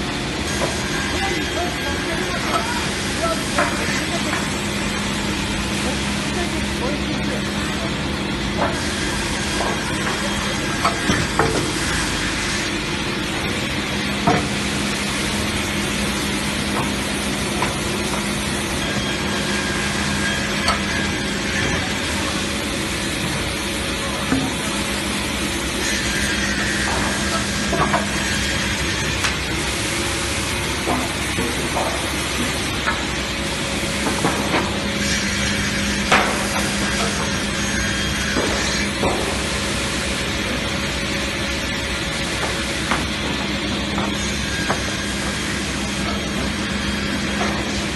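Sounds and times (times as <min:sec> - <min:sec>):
edging saw humming and hissing: 0:00.0 - 0:47.9.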